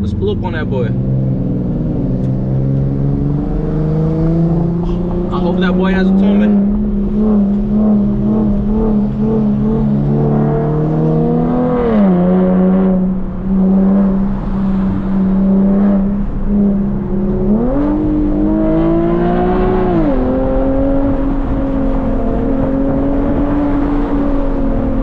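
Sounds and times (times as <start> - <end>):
car engine revving with gear changes: 0.0 - 25.0.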